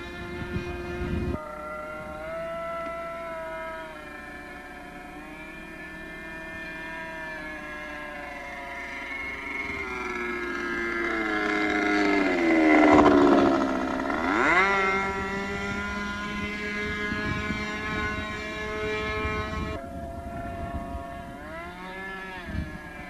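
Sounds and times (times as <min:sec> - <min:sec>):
model aircraft engine whining: 0:00.0 - 0:23.0.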